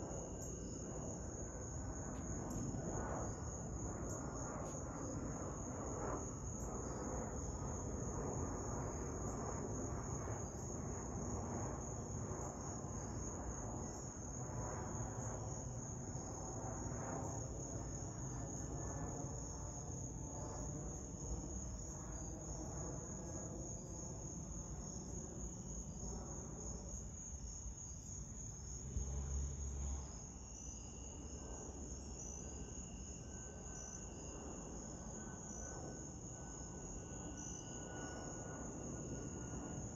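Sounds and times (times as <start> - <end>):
jet airliner passing overhead: 0.0 - 27.4, 28.1 - 39.9
insects chirping: 0.0 - 39.9.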